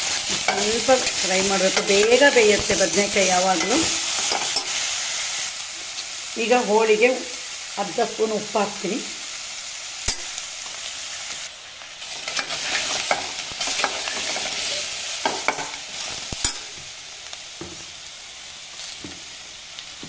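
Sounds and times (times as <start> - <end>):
eggplant sizzling in hot oil: 0.0 - 20.0.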